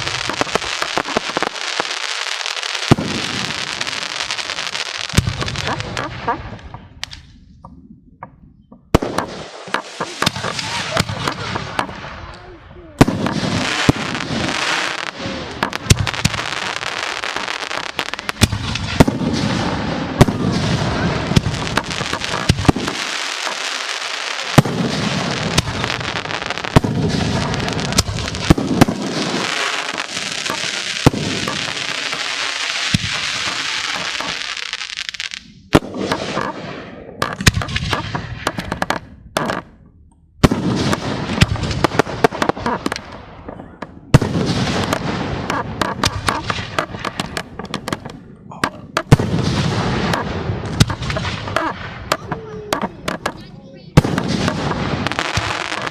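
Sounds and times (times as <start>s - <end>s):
firework crackling: 0.0s - 7.4s, 9.0s - 39.7s, 40.4s - 43.5s, 44.1s - 48.3s, 48.9s - 55.9s
firework shells bursting: 0.0s - 7.4s, 8.8s - 12.4s, 13.0s - 39.8s, 40.4s - 55.9s.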